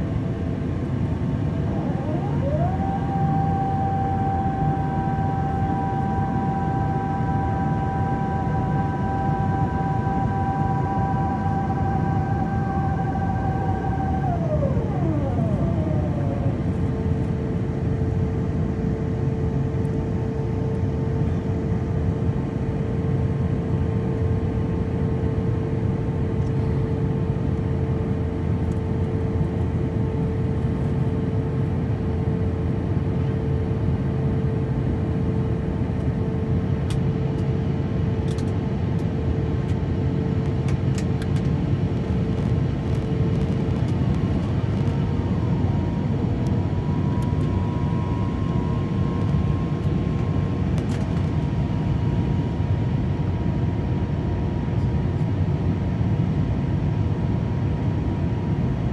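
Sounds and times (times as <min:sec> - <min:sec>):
engine and air roar in cabin: 0:00.0 - 0:58.9
whine: 0:00.0 - 0:58.9.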